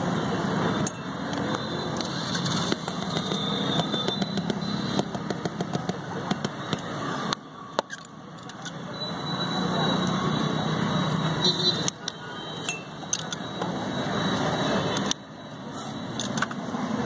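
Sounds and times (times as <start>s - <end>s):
engine and traffic rumble: 0.0s - 17.0s.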